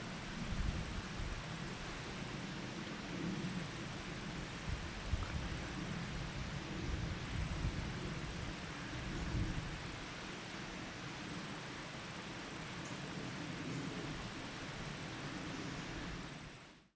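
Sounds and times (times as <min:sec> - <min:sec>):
steady hiss: 0:00.0 - 0:16.9.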